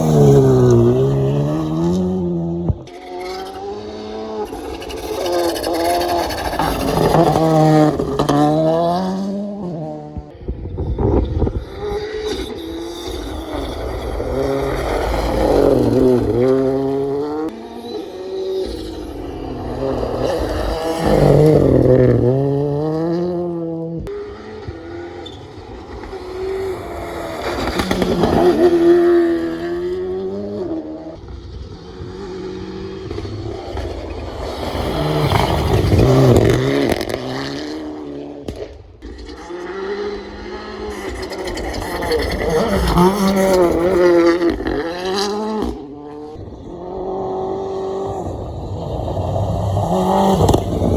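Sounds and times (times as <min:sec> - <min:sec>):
rally cars passing at speed: 0:00.0 - 0:50.9.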